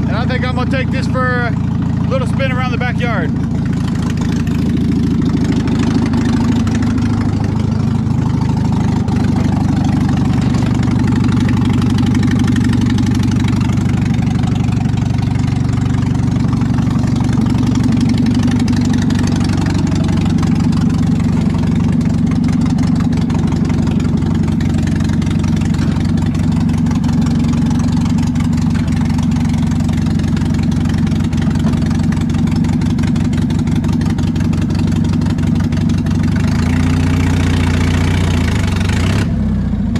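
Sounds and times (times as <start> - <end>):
cold engine running on choke: 0.0 - 39.9.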